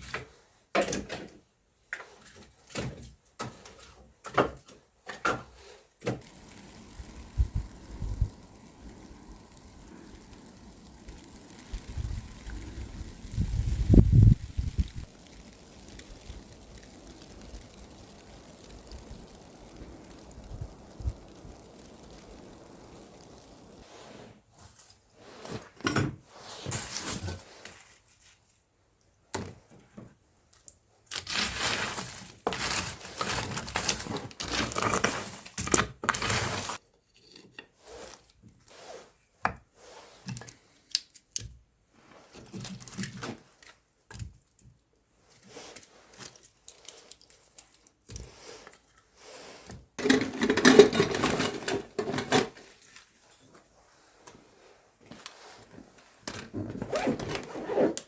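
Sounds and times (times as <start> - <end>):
rustling and crinkling: 0.0 - 58.0.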